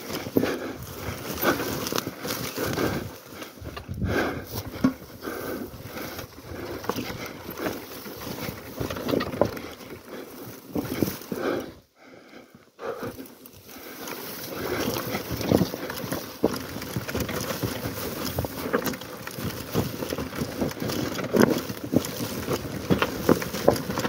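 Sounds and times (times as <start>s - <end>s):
motorbike rattling over stones: 0.0s - 11.7s, 13.0s - 24.0s.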